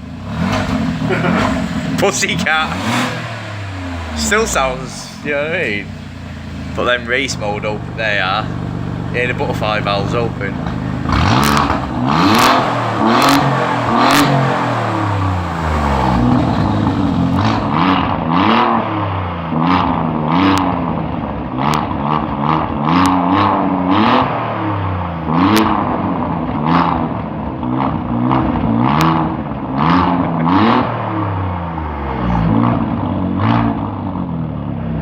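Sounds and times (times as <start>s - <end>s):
car engine revving: 0.0s - 35.0s
exhaust cracks: 0.0s - 35.0s.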